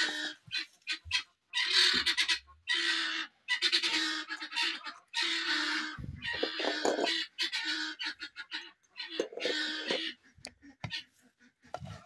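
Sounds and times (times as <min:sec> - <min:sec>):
poultry calling harshly: 0:00.0 - 0:12.0.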